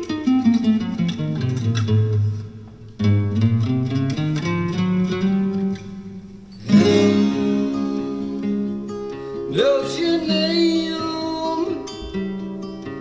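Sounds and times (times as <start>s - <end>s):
rock guitar music from vinyl: 0.0s - 13.0s.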